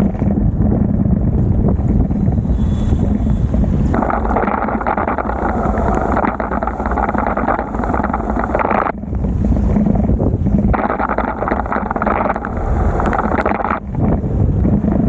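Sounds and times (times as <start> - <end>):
low rumble: 0.0 - 15.0
wind rushing over microphone: 0.0 - 15.0.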